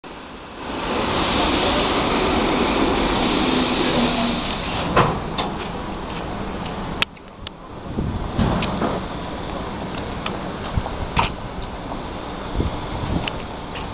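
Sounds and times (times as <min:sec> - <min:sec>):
train wheels rushing on rail: 0:00.0 - 0:13.9.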